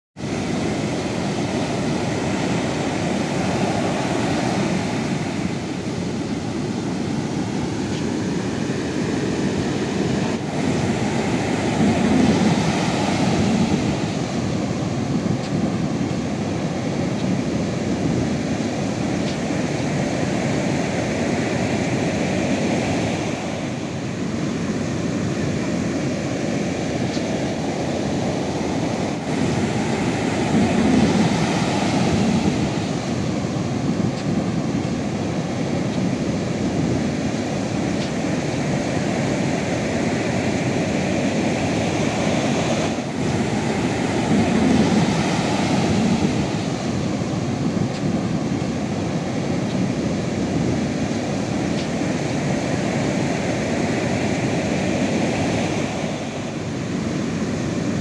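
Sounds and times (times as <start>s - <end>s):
large waves breaking: 0.2s - 58.0s
sea waves washing: 0.2s - 58.0s.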